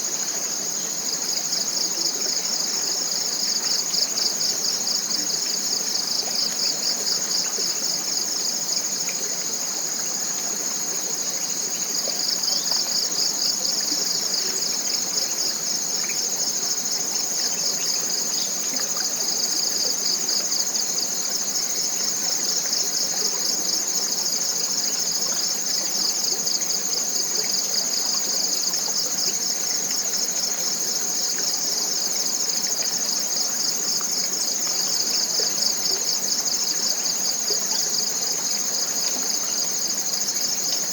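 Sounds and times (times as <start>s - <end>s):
small stream rushing: 0.0s - 40.9s.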